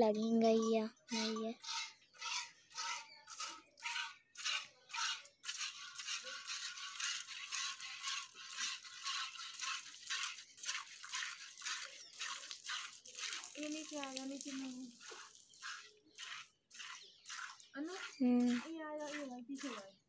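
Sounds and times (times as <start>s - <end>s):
milk squirting into steel bucket: 1.2s - 20.0s.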